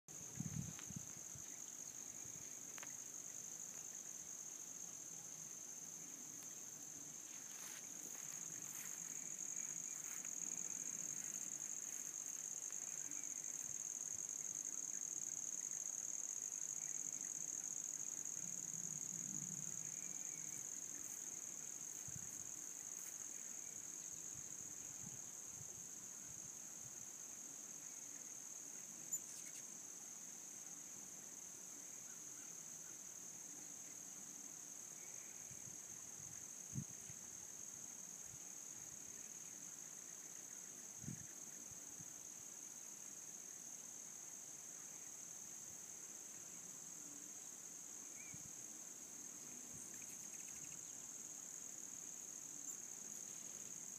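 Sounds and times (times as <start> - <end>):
insect chorus chirring: 0.1 - 53.9.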